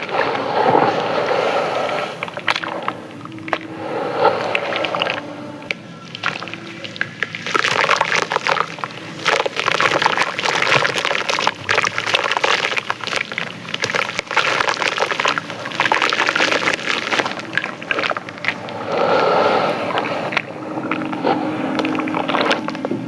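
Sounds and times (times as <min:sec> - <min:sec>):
clay chunks crumbling in water: 0:02.2 - 0:03.7, 0:04.8 - 0:18.8, 0:19.9 - 0:23.0.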